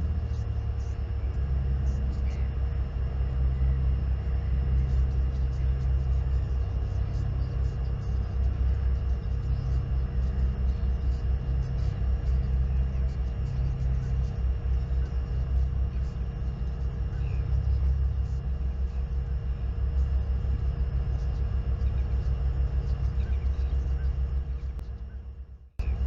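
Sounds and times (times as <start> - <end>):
faint electrical whine: 0.0 - 26.0.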